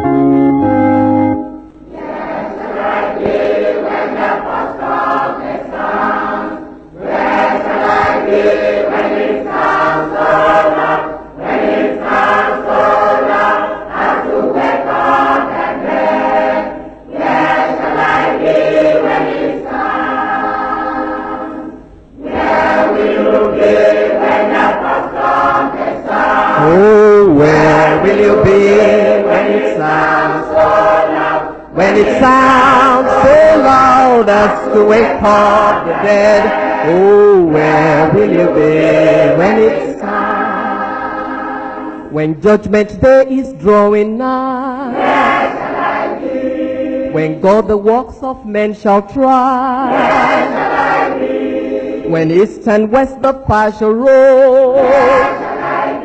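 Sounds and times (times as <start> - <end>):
choir singing a hymn: 0.0 - 42.3, 43.1 - 47.9, 49.2 - 52.5, 53.5 - 56.0.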